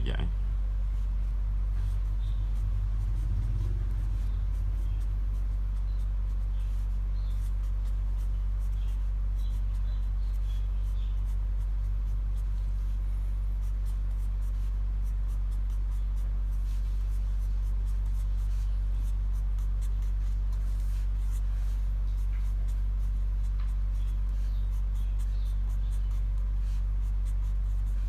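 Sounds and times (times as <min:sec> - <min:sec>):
low electrical hum: 0:00.0 - 0:28.0
marker scratching on paper: 0:00.9 - 0:28.0.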